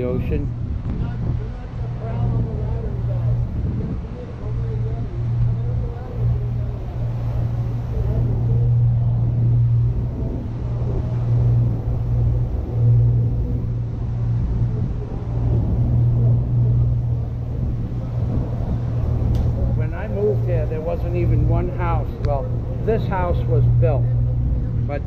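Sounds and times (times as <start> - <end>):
boat engine drone: 0.0 - 25.0
water noise: 0.0 - 25.0
wind noise: 0.0 - 25.0.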